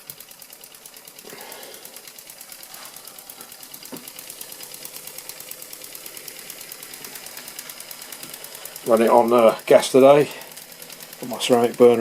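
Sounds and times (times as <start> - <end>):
toy steam engine running: 0.0 - 12.0.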